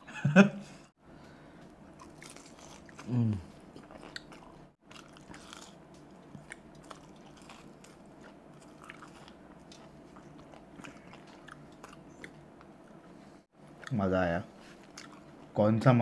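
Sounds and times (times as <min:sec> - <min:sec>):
person chewing food: 0:01.2 - 0:14.0, 0:14.6 - 0:15.4.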